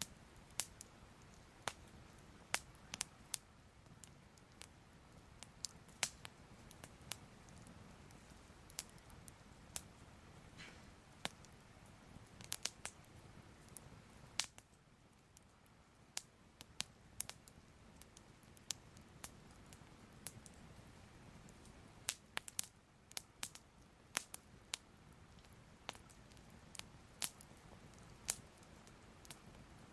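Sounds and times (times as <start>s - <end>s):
fire crackling: 0.0s - 29.9s
low hiss: 0.0s - 29.9s.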